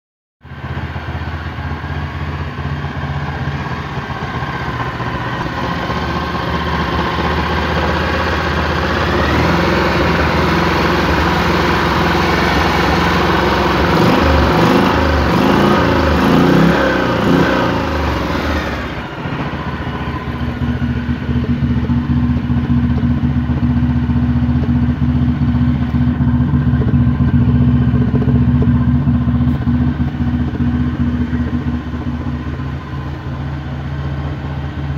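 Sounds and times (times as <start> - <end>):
engine running: 0.4 - 34.9.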